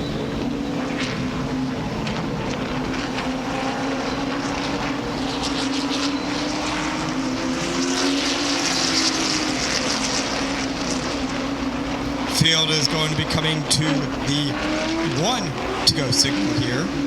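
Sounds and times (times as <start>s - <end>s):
stock car engines droning: 0.0s - 17.0s.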